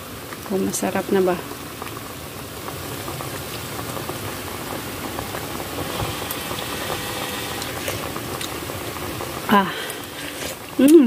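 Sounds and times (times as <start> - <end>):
soup bubbling in metal pot: 0.0 - 11.0.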